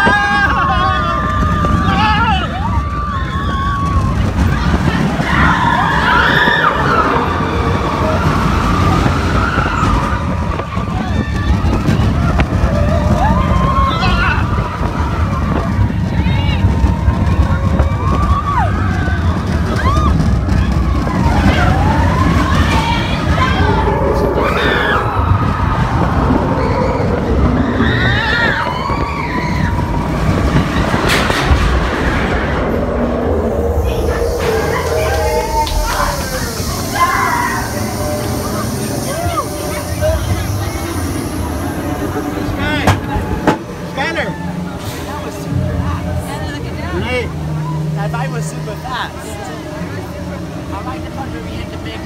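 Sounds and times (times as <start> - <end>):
riders screaming: 0.0 - 44.7
roller coaster train rumble: 0.0 - 52.0
wind: 0.0 - 52.0.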